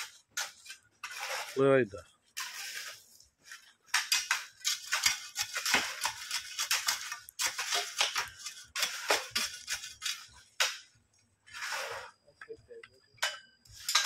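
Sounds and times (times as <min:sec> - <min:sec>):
metal tools scraping soil: 0:00.0 - 0:12.3, 0:13.7 - 0:14.0.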